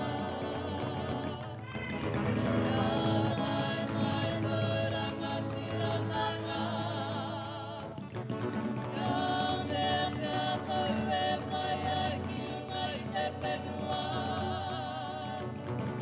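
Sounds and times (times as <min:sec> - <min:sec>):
women singing in harmony: 0:00.0 - 0:16.0.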